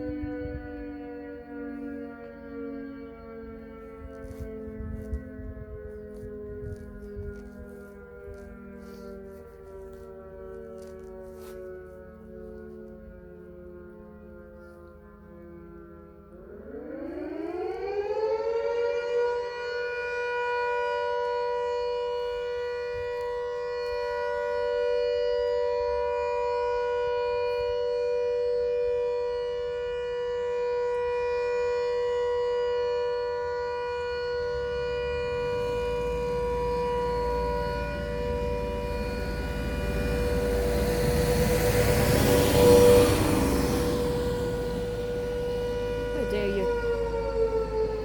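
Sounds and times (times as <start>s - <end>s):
two-note siren wail: 0.0s - 48.0s.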